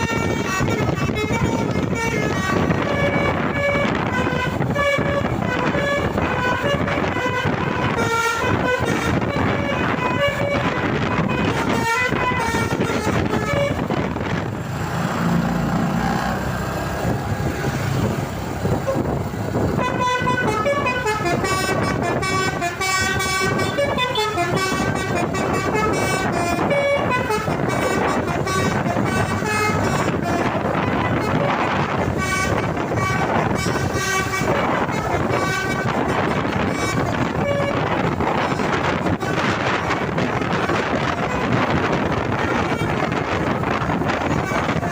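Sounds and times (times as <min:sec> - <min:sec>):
multi-tone bus air horn melody: 0:00.0 - 0:44.9
road and engine noise: 0:00.0 - 0:44.9.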